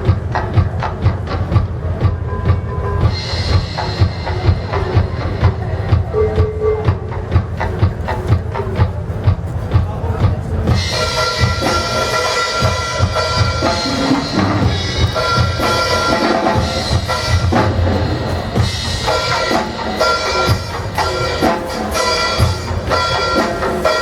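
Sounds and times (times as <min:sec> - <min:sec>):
drum kit playing: 0:00.0 - 0:24.0.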